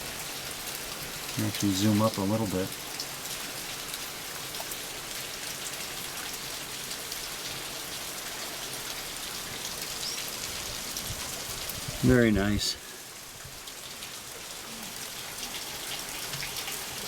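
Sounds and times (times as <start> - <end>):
water dripping from rock: 0.0 - 12.1, 12.8 - 17.0.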